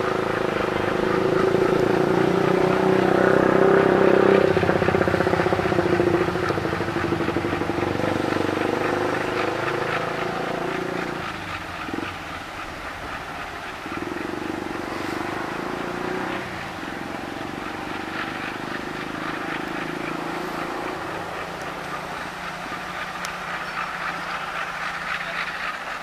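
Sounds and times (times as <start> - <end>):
diesel locomotive engine running: 0.0 - 26.0
wagons rolling on rails: 0.0 - 26.0.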